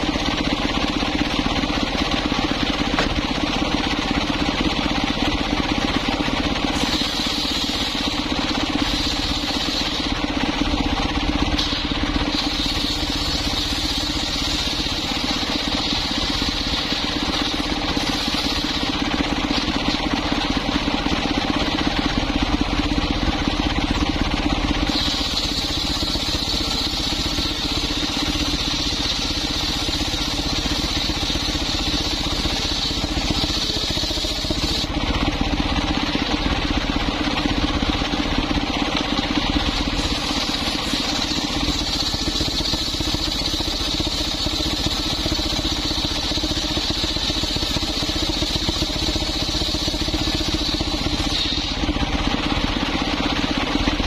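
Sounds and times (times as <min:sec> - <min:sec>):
circular saw bench running: 0:00.0 - 0:54.0
high saw cutting whine: 0:00.0 - 0:54.0.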